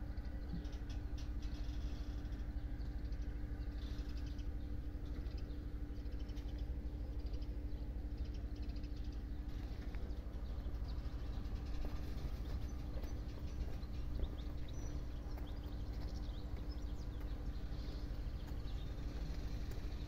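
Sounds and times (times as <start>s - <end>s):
continuous low rumble: 0.0s - 20.0s
small birds chirping: 0.0s - 20.0s
steady low hum: 0.0s - 20.0s.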